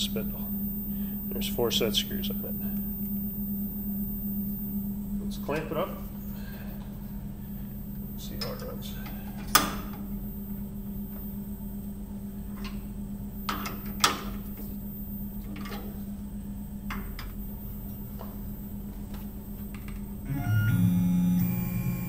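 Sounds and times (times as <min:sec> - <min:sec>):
milling machine humming: 0:00.0 - 0:22.0.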